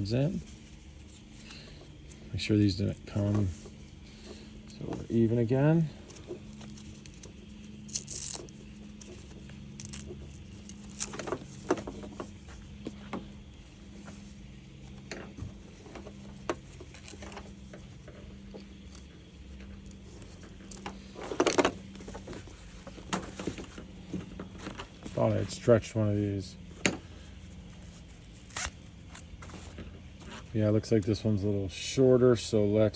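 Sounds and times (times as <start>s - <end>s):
rustling nylon webbing: 0.0s - 30.6s
faint steady hum: 0.0s - 32.9s.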